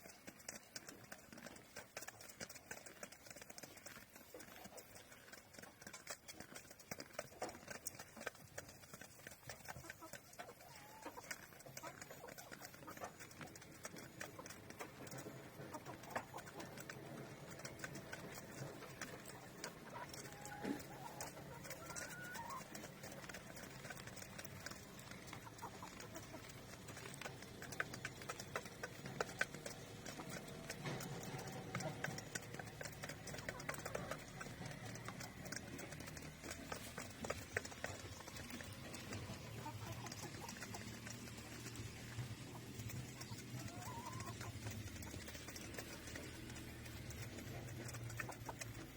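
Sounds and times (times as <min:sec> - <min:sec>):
animals pecking grain: 0:00.0 - 0:48.9
chickens chirping: 0:00.0 - 0:48.9.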